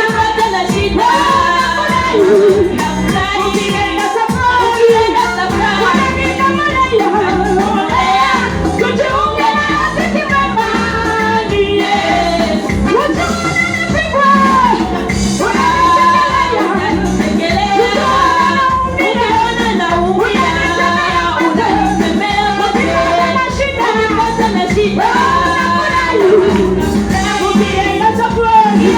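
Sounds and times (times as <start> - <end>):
choir singing gospel song: 0.0 - 28.9
instrumental backing: 0.0 - 28.9.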